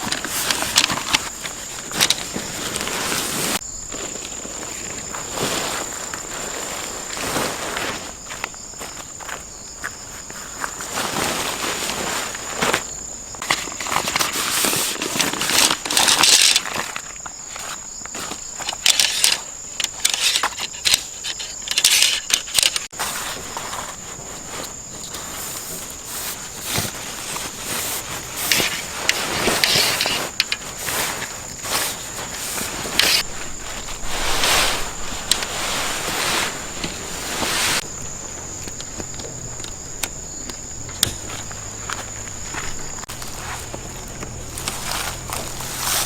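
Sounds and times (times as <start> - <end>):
rustles and scrapes from handling: 0.0 - 37.9, 42.0 - 46.0
crickets chirring: 0.0 - 46.0.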